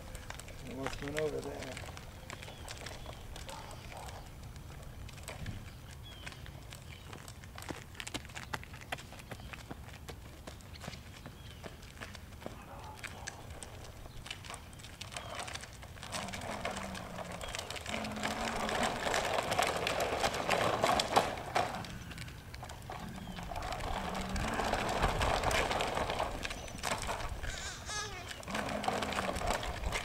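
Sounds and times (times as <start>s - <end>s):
plastic wheels rattling on asphalt: 0.0s - 30.0s.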